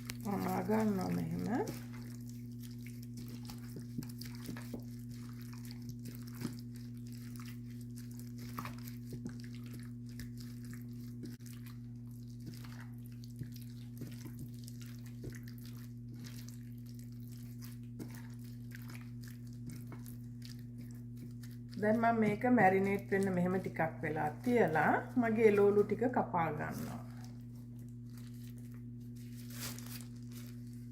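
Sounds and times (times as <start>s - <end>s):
hands squelching marinade: 0.0s - 30.9s.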